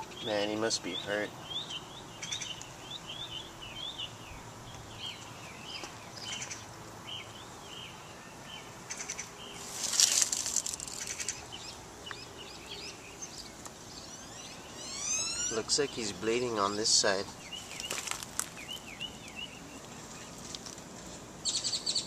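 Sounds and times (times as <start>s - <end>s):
small birds chirping: 0.0s - 22.0s
steady outdoor hiss: 0.0s - 22.0s.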